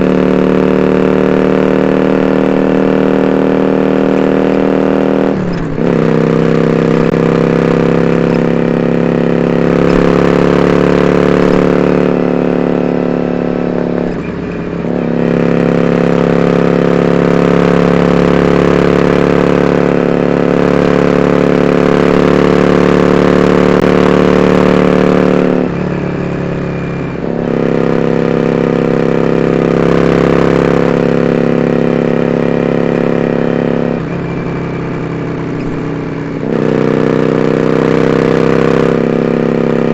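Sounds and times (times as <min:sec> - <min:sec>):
motorcycle engine cruising loud: 0:00.0 - 0:39.9.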